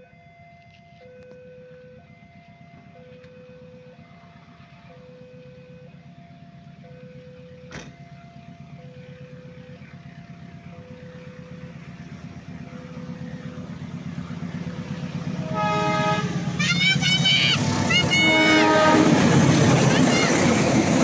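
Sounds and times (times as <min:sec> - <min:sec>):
diesel train rumble: 0:00.0 - 0:21.0.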